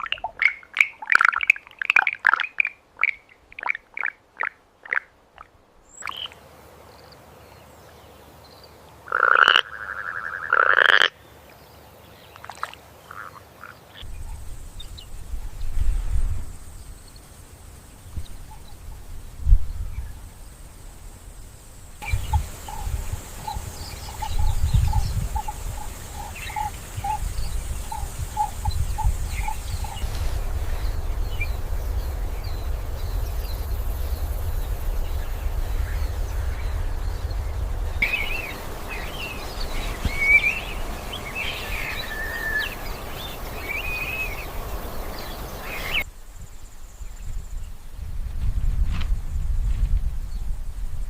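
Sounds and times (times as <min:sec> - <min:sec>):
birds chirping: 0:00.0 - 0:47.6.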